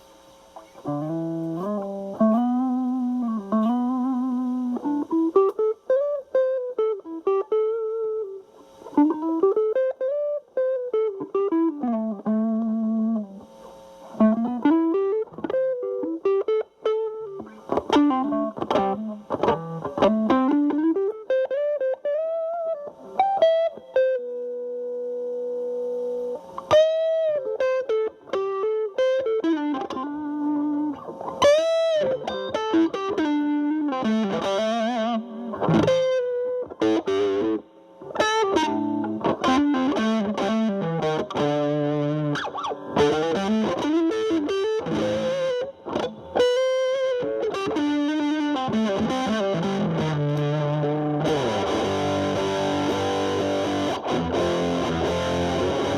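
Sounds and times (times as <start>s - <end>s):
distorted electric guitar lead: 0.0s - 55.9s.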